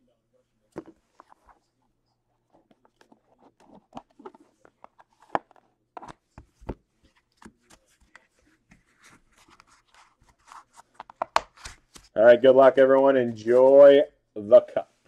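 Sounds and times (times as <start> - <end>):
cards and cardboard handled: 0.8 - 1.7, 2.4 - 14.0.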